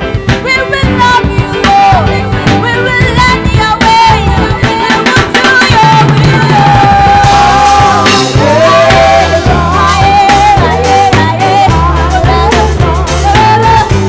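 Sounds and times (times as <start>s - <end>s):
worship band with drums and bass: 0.0s - 14.0s
person singing: 0.6s - 14.0s.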